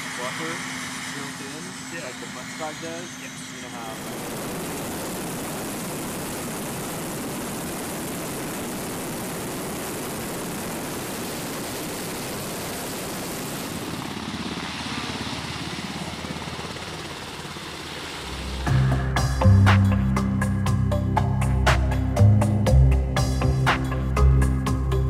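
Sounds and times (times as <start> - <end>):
helicopter rotor and engine noise: 0.0 - 21.2
pulsing rotor beat: 0.0 - 25.0.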